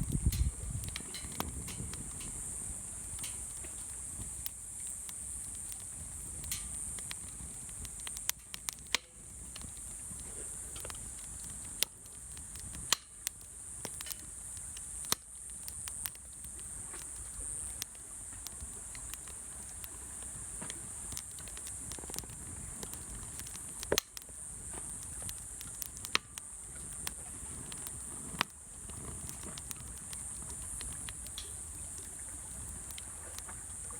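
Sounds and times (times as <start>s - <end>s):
campfire crackling and popping: 0.0s - 33.9s
high hiss: 0.0s - 33.9s.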